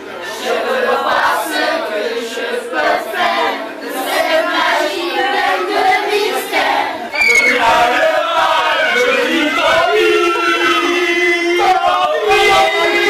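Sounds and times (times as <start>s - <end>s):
crowd voices: 0.0s - 13.0s
women singing together: 0.2s - 13.0s.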